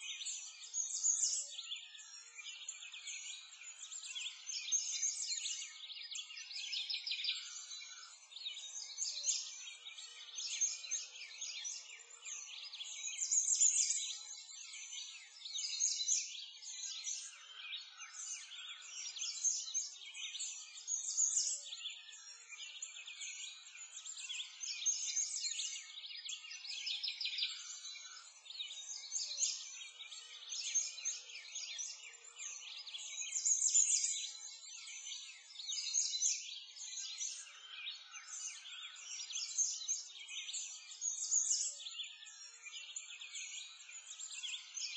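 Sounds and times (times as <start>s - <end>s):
birds chirping and singing: 0.0s - 44.9s.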